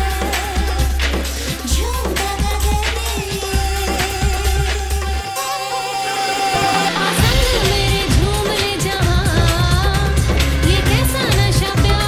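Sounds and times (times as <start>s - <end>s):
pop song with singer: 0.0s - 12.0s.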